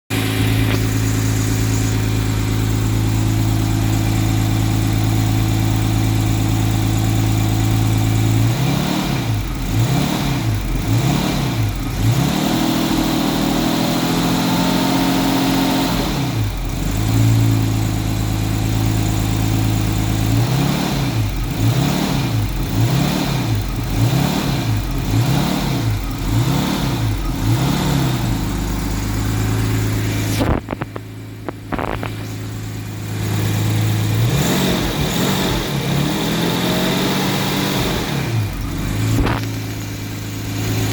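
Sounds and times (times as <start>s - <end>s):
car engine idling and surging: 0.0s - 40.9s.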